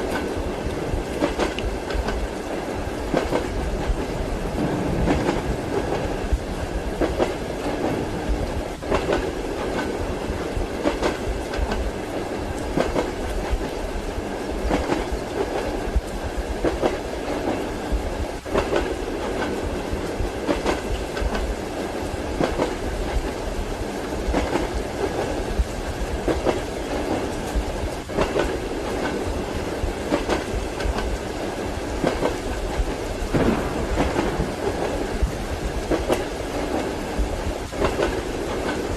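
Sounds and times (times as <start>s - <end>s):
train rolling rumble: 0.0s - 38.9s
train wheels clacking: 0.0s - 38.9s.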